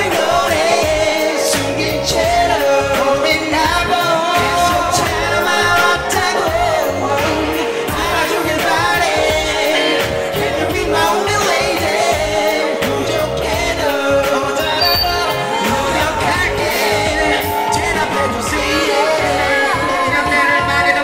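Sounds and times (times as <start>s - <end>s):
pop backing track with beat: 0.0s - 21.0s
two men singing: 0.0s - 21.0s.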